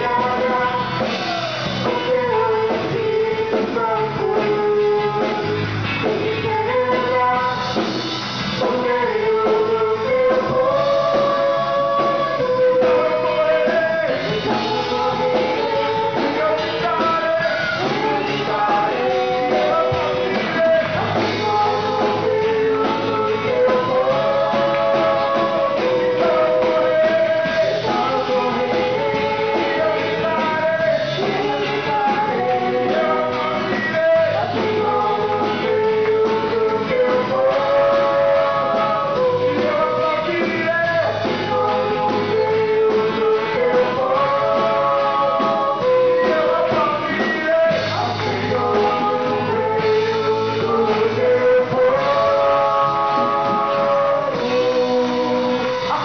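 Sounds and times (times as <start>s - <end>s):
rock song with singing: 0.0s - 56.0s.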